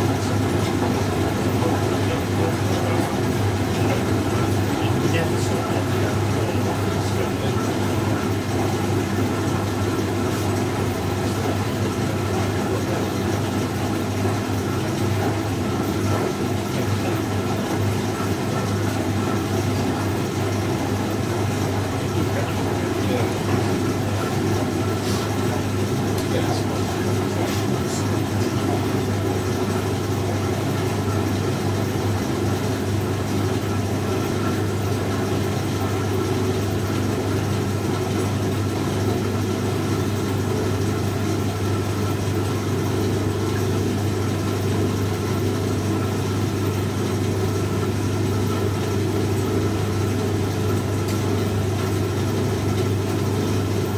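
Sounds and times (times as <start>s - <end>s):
washing machine motor hum: 0.0s - 53.9s.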